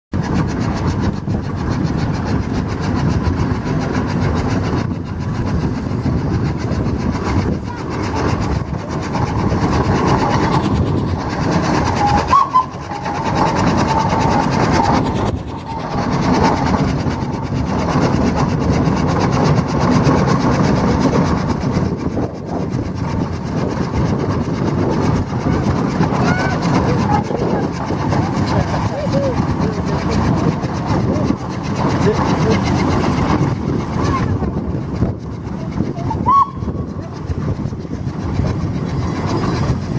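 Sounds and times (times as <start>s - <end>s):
steam engine exhaust beating: 0.2s - 39.9s.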